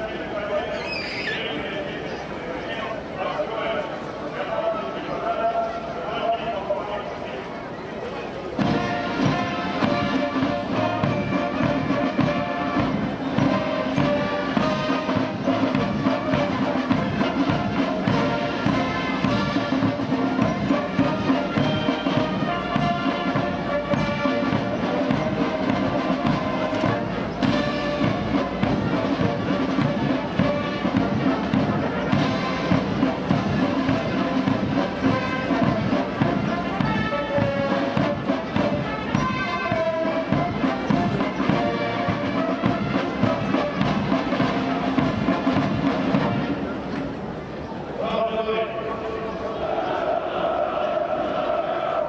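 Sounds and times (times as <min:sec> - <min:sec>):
military brass band playing: 0:08.6 - 0:47.2, 0:48.2 - 0:52.0.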